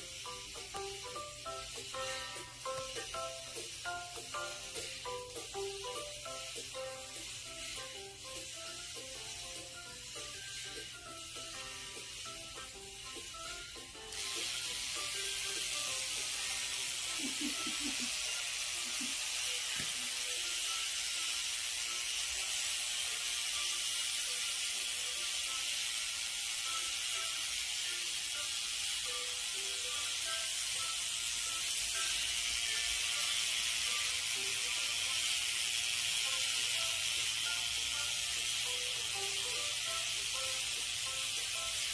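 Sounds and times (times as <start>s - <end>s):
toy robot motors whirring: 0.0s - 41.9s.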